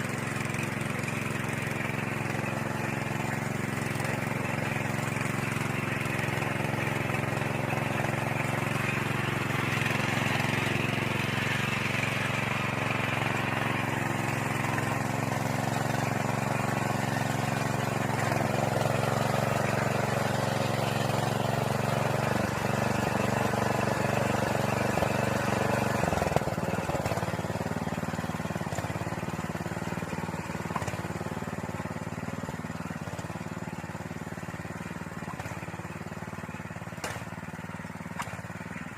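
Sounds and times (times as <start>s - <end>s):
tiller engine running: 0.0s - 38.9s.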